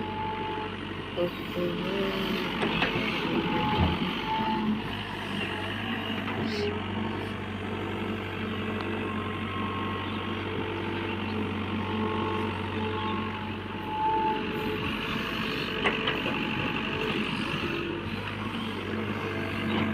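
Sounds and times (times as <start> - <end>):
heavy diesel engine running: 0.0 - 19.9.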